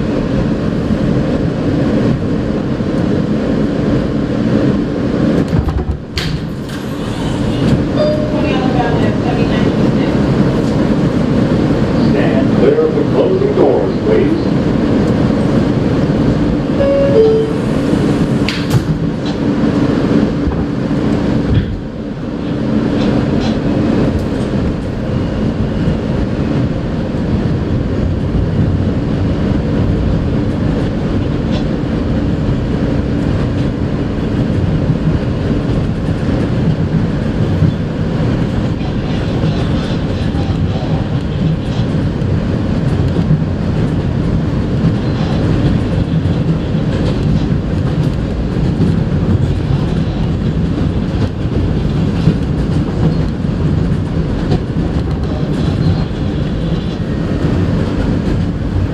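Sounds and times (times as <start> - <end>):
subway train rumbling: 0.0 - 58.9.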